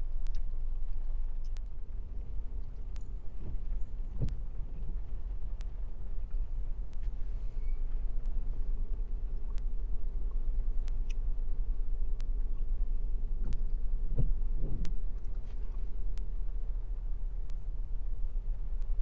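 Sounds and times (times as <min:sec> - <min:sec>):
light sharp ticks: 0:00.0 - 0:01.9, 0:02.6 - 0:07.3, 0:07.9 - 0:11.4, 0:12.0 - 0:16.6, 0:17.4 - 0:19.0
car idling heard from cabin: 0:00.0 - 0:19.0.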